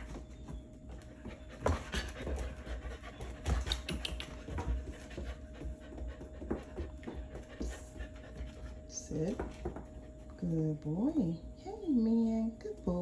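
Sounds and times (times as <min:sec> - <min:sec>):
puppies panting: 0:00.0 - 0:10.4.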